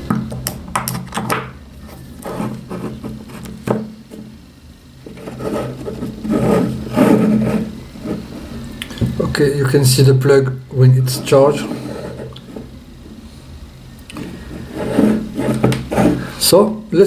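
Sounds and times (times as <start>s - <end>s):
rubbing and knocking: 0.0s - 9.3s, 11.0s - 13.2s, 14.2s - 16.5s
steady low hum: 0.0s - 17.0s.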